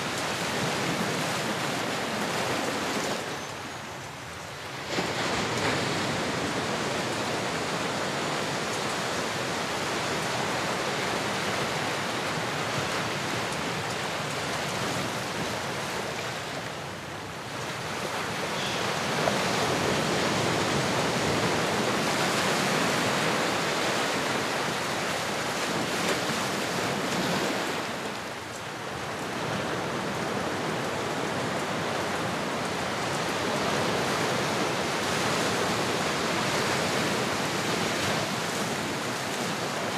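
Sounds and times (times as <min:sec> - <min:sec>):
ocean waves rushing: 0:00.0 - 0:39.9.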